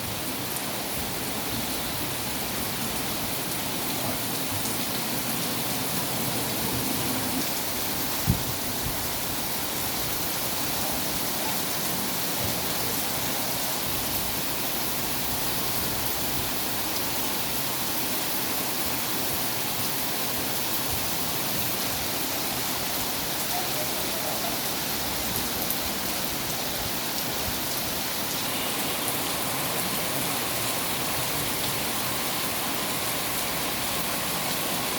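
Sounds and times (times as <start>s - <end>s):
rain falling on ground: 0.0s - 34.9s.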